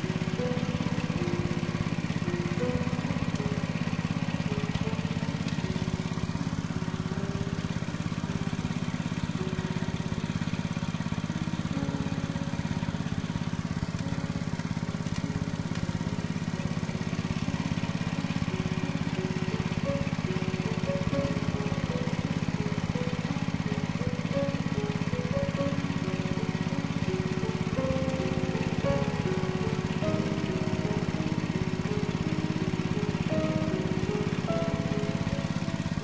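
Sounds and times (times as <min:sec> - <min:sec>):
small petrol engine running: 0:00.0 - 0:36.0.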